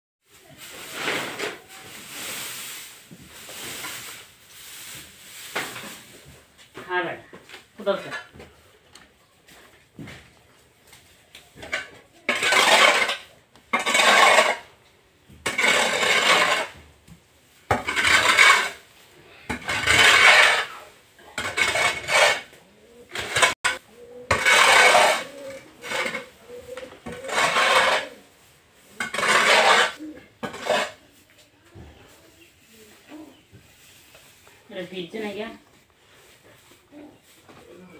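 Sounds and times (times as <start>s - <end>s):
wooden scraper dragging through dung: 0.3s - 6.7s, 11.6s - 37.9s.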